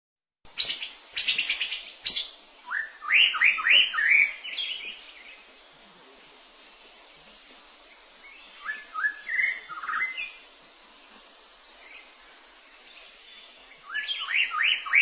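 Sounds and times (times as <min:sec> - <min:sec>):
bird singing: 0:00.6 - 0:05.6, 0:06.7 - 0:10.5, 0:11.7 - 0:15.0.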